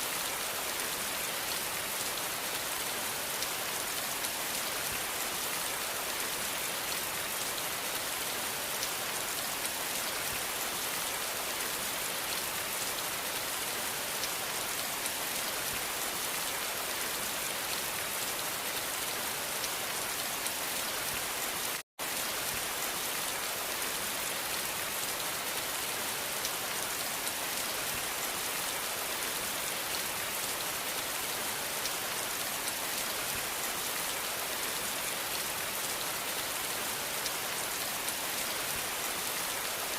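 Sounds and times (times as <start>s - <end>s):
rain on a surface: 0.0s - 39.9s.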